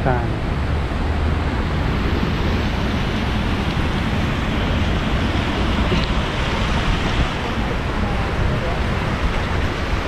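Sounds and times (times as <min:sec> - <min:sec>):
wind rushing on microphone: 0:00.0 - 0:10.0.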